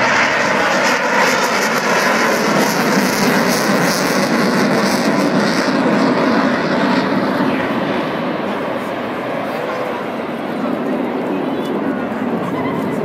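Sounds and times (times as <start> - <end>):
jet engines roaring past: 0.0 - 13.0.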